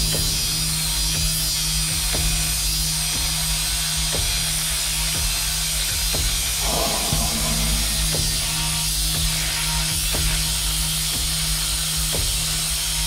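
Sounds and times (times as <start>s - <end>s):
background music with drum beat: 0.0s - 13.0s.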